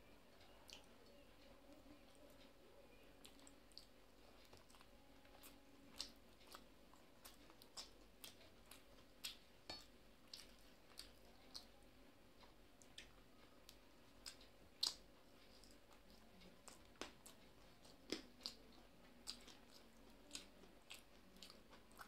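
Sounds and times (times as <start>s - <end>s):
soft mouth clicks and squishes: 3.2s - 11.8s, 12.8s - 22.0s.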